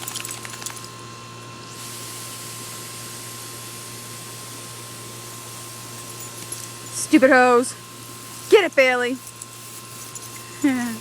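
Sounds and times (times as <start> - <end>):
garden hose spraying water: 0.0 - 11.0.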